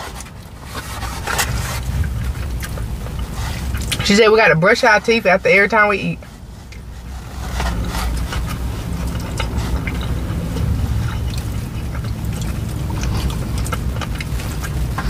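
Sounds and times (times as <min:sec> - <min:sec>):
wet chewing: 0:00.0 - 0:04.4, 0:06.2 - 0:15.0
low steady rumble: 0:00.0 - 0:15.0.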